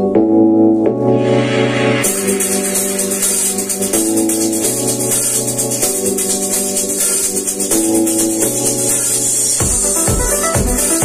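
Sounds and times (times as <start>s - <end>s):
held chords: 0.0s - 11.0s
music through party speaker: 1.0s - 11.0s.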